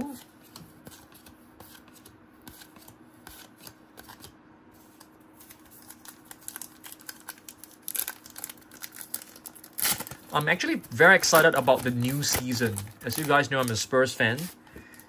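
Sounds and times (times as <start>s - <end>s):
cards clicking and rustling: 0.0s - 4.3s, 4.9s - 15.0s.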